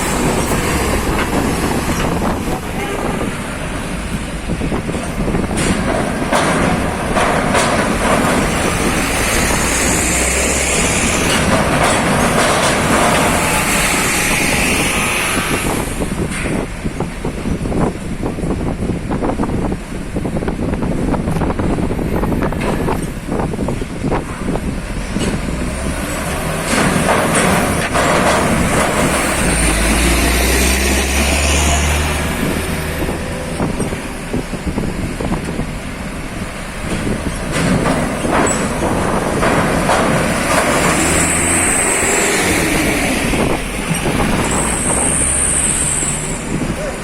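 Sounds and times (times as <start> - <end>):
diesel trucks rumbling: 0.0 - 47.0.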